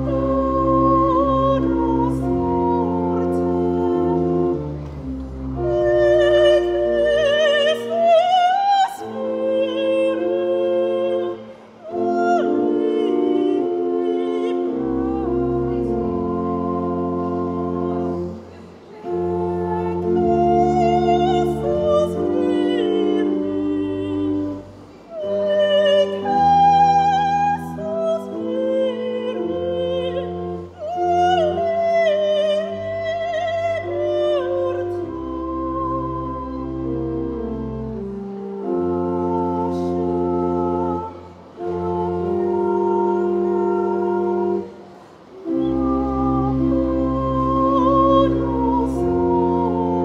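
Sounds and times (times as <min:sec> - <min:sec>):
organ chords: 0:00.0 - 0:50.0.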